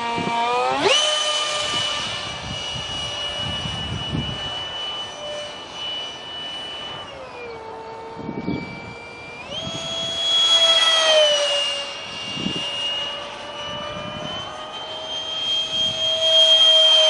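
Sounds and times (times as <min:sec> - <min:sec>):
electric ducted fan whining: 0:00.0 - 0:17.0.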